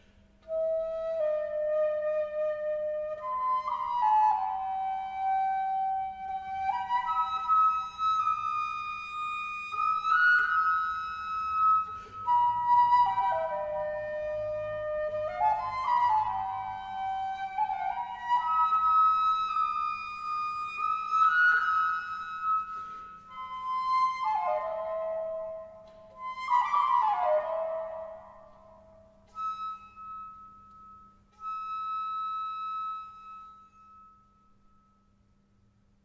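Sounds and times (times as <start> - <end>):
solo flute playing: 0.0 - 35.0.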